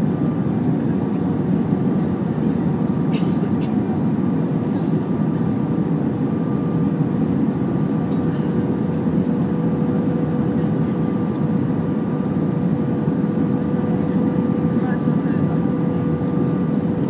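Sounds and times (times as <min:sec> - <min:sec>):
aircraft cabin engine and airflow rush: 0:00.0 - 0:17.0.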